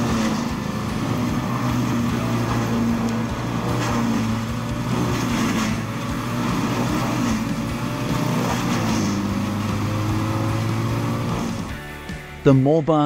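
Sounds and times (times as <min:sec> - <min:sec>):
crackling of brush being ground: 0:00.0 - 0:11.7
diesel engine running: 0:00.0 - 0:12.4.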